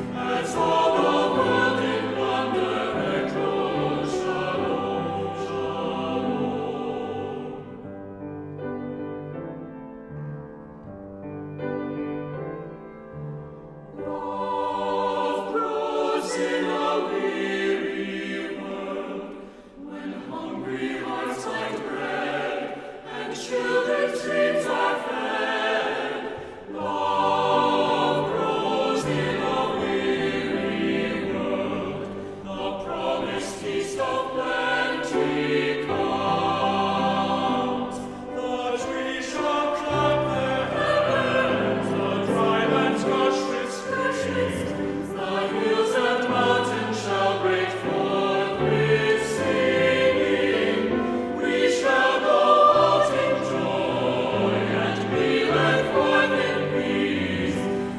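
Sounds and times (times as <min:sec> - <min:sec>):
choir singing a hymn: 0:00.0 - 0:10.2, 0:11.2 - 0:57.9.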